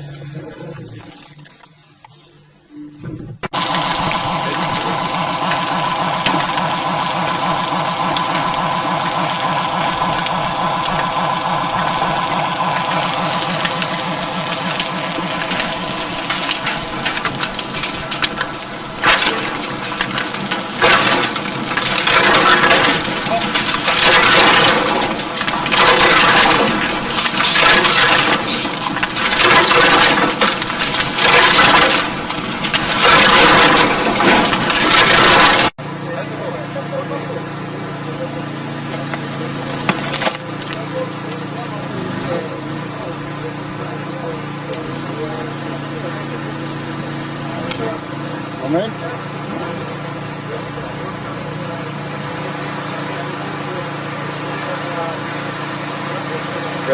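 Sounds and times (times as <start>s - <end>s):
machine engine running: 0.0s - 56.9s.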